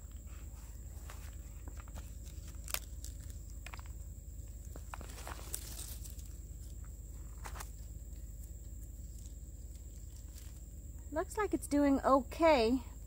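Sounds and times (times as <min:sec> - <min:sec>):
rustling of stiff leaves and soil: 0:00.0 - 0:11.7.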